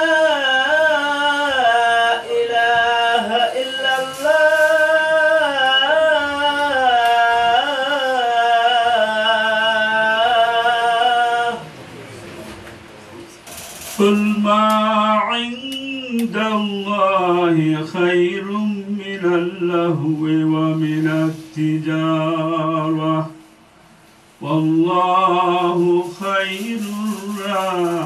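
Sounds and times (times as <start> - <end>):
man chanting recitation: 0.0 - 11.8, 13.7 - 23.4, 24.4 - 28.0.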